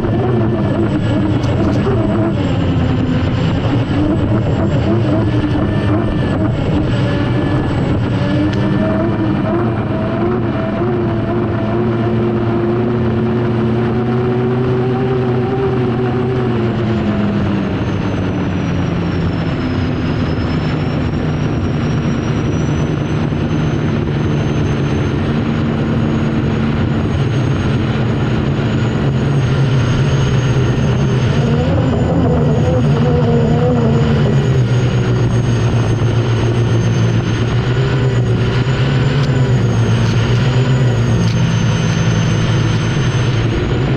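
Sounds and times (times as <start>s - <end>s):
turbine engine running: 0.0s - 43.9s.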